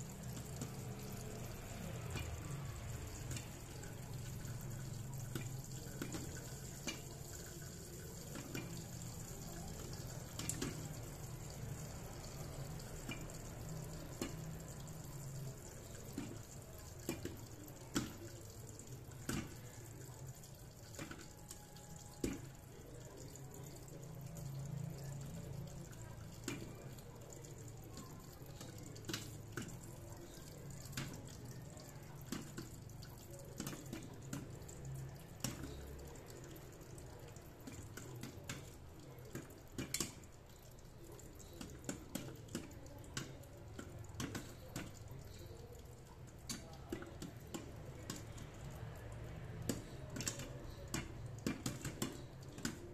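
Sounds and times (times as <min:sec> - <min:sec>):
popcorn popping: 0:00.0 - 0:23.0, 0:24.4 - 0:36.4, 0:37.0 - 0:52.9.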